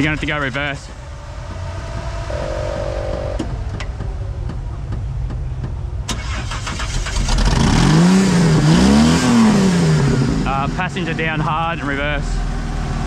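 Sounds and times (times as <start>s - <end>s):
off-road truck engine revving: 0.0s - 4.5s, 6.1s - 13.0s.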